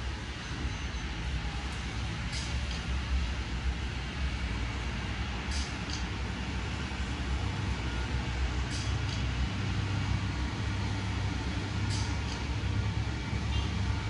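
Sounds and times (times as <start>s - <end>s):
traffic on wet road: 0.0s - 14.0s.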